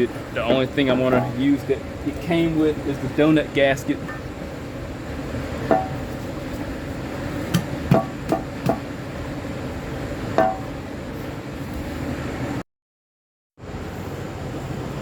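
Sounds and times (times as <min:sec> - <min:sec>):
low background hum: 0:00.0 - 0:12.6.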